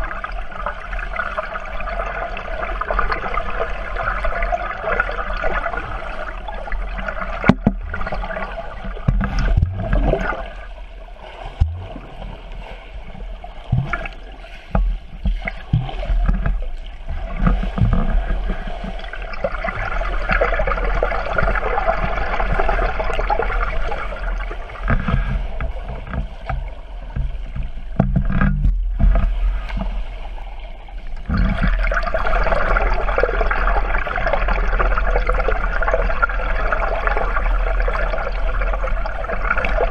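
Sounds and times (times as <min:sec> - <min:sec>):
underwater rushing and gurgling: 0:00.0 - 0:39.9.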